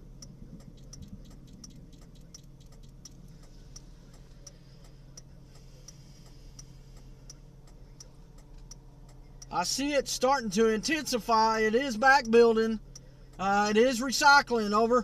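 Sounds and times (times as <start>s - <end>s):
indicator flasher ticking: 0.0s - 14.9s
low steady hum: 0.0s - 15.0s.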